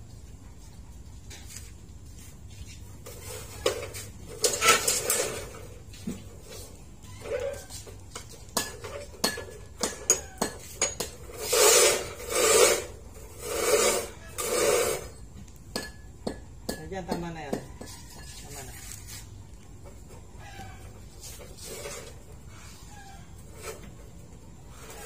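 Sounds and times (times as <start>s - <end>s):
rebar scraping against metal: 2.5s - 16.1s, 17.6s - 25.0s.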